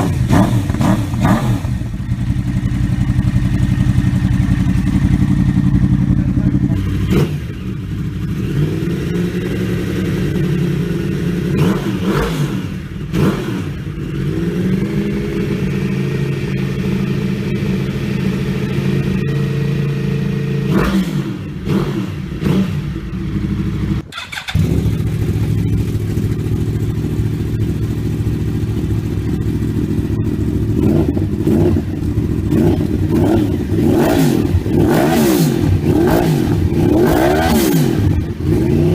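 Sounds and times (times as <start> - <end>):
motorcycle engine idling: 0.0 - 20.7, 21.4 - 34.9.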